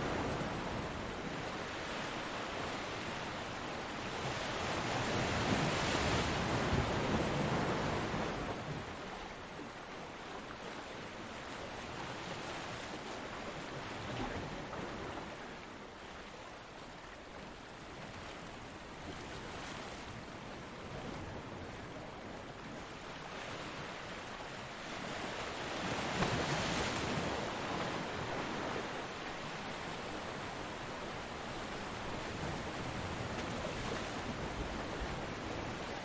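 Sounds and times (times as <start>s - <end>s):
waves washing onto beach: 0.0s - 36.0s.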